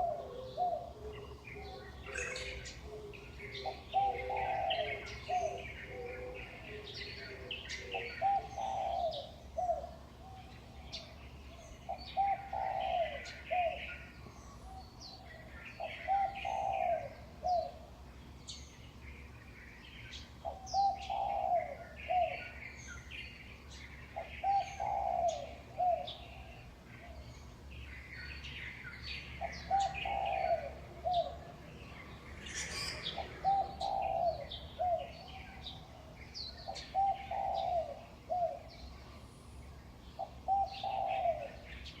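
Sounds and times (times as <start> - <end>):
dove cooing: 0.0 - 18.0, 20.1 - 39.3, 39.9 - 42.0
small birds chirping: 0.0 - 42.0.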